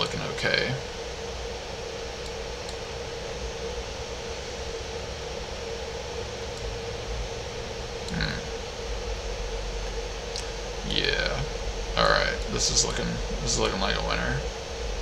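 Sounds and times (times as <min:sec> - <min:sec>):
fan hum and hiss: 0:00.0 - 0:15.0.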